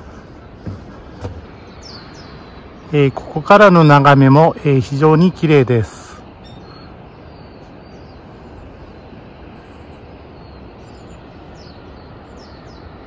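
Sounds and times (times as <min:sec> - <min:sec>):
high bird calls: 0:00.0 - 0:13.0.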